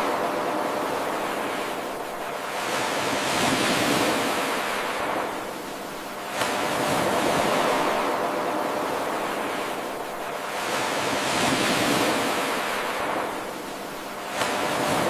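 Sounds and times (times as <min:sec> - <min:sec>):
ocean waves washing onto shore: 0:00.0 - 0:15.0.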